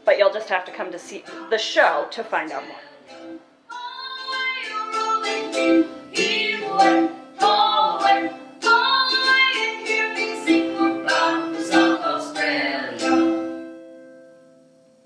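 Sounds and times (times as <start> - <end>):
chords strummed on string instrument: 2.6 - 15.0.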